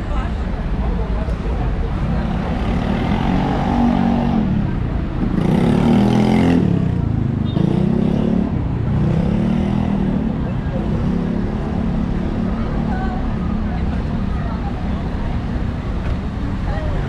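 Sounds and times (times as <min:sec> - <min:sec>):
vehicle engines revving: 0:00.0 - 0:17.0.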